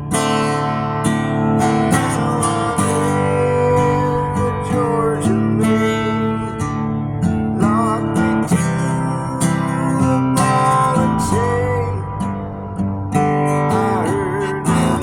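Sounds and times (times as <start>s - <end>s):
acoustic guitar strumming chords: 0.0s - 15.0s
guitar melody with bending notes: 0.0s - 15.0s.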